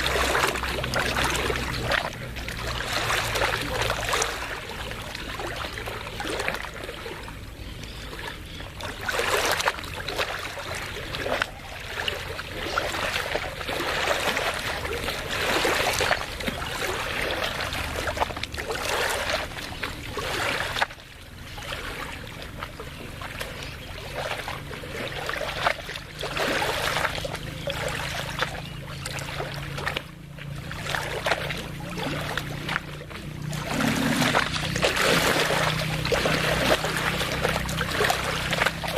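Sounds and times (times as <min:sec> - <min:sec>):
small waves lapping: 0:00.0 - 0:38.9
steady low hum: 0:00.0 - 0:38.9.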